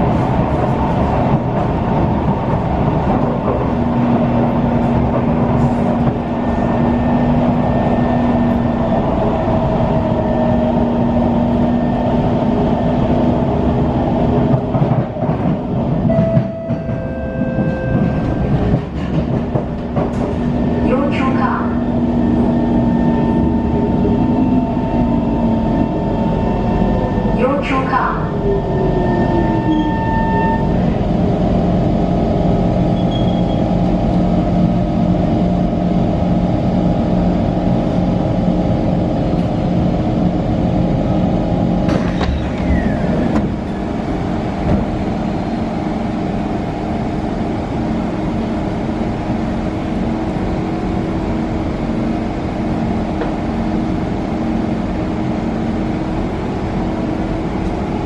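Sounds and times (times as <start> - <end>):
train equipment humming: 0.0 - 58.0.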